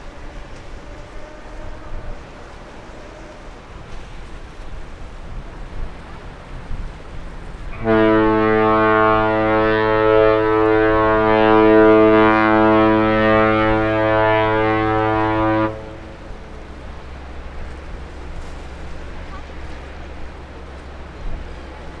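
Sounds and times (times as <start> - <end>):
ship's horn deep blast: 0.0 - 4.4, 7.5 - 22.0.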